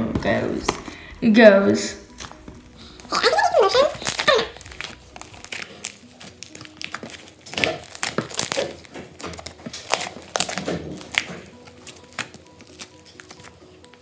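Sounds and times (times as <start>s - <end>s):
slime crackling and squishing: 0.3s - 14.0s.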